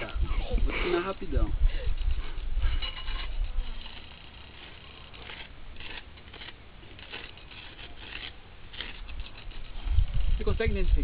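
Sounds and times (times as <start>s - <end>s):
stick scraping sand: 2.1s - 11.0s.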